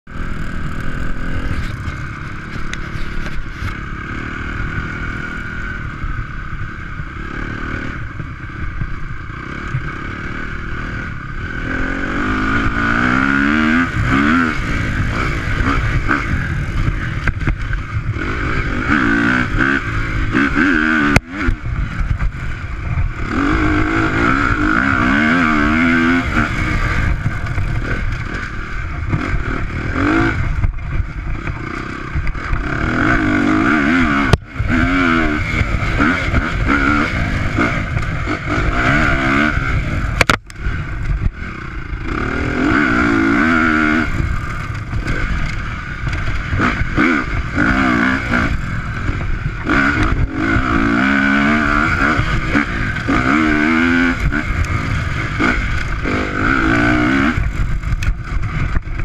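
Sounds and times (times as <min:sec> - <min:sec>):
dirt bike engine revving: 0:00.1 - 0:59.0.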